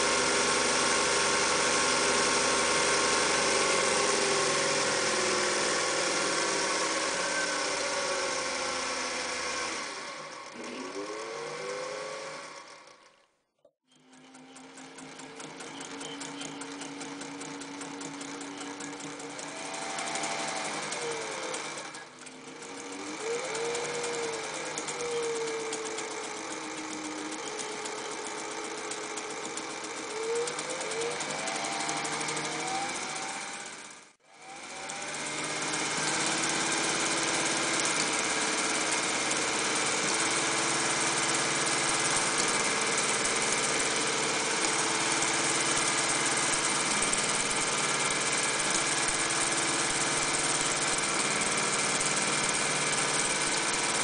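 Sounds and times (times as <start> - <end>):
sewing machine motor whining: 0.0 - 13.3, 13.9 - 54.0.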